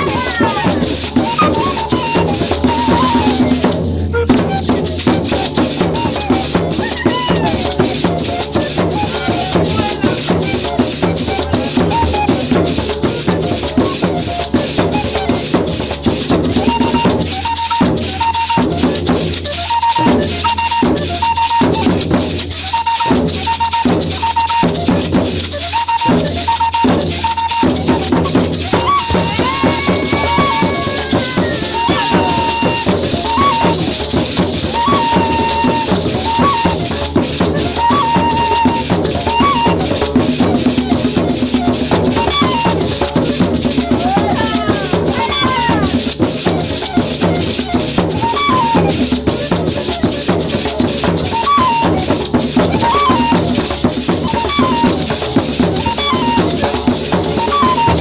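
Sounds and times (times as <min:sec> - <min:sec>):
folk dance music: 0:00.0 - 0:58.0
maraca shaking rhythm: 0:00.0 - 0:58.0.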